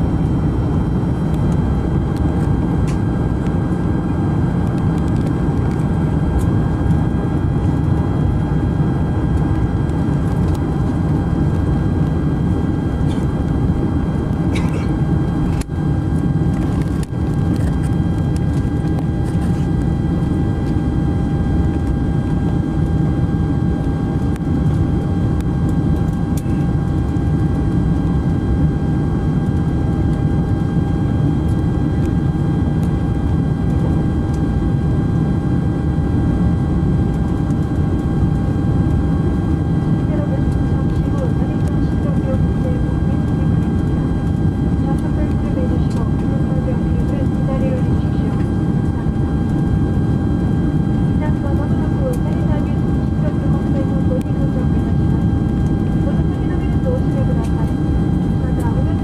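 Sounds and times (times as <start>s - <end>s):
aircraft cabin rumble: 0.0s - 59.0s
faint steady whines: 0.0s - 59.0s.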